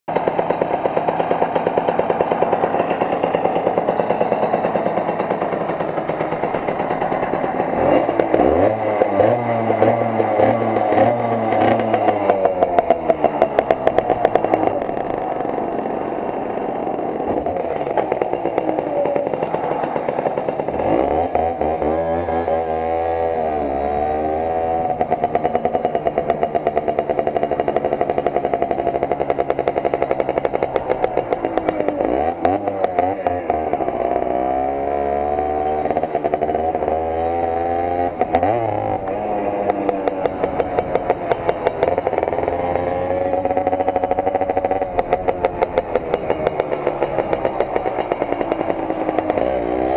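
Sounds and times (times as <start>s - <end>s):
moped engine idling and revving: 0.1s - 49.9s.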